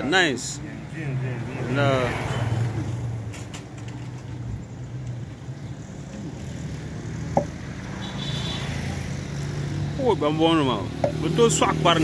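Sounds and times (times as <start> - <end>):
faint street noise: 0.0 - 12.0.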